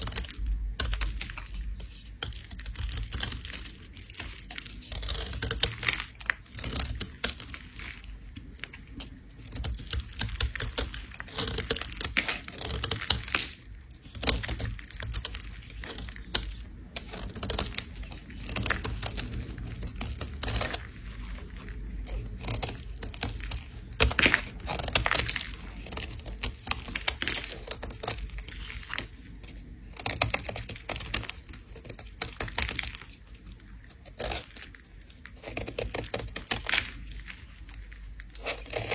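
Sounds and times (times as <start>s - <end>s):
soap being scraped: 0.0s - 38.9s.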